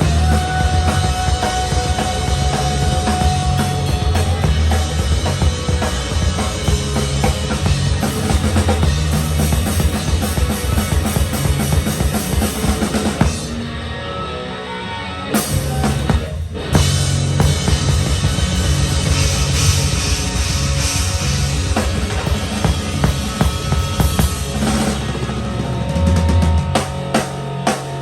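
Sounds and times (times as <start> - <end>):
drum kit: 0.0 - 14.0, 15.3 - 28.0
live rock band playing: 0.0 - 28.0.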